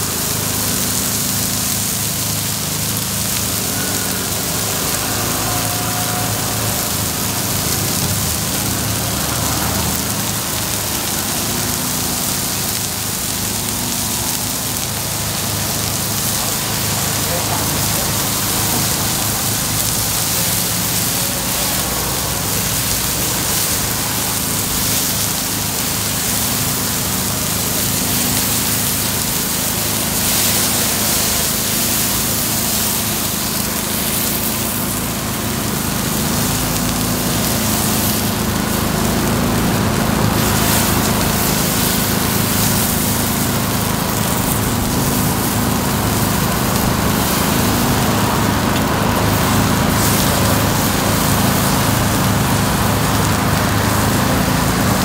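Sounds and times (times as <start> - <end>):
batter sizzling on griddle: 0.0 - 55.0.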